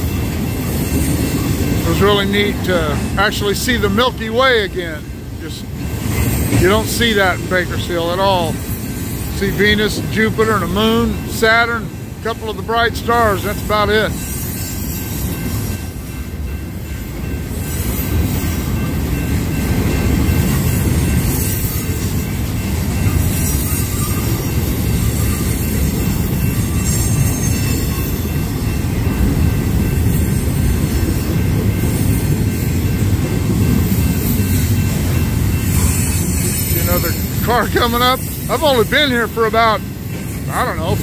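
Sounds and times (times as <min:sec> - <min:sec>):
freight train wheels rumbling: 0:00.0 - 0:41.0.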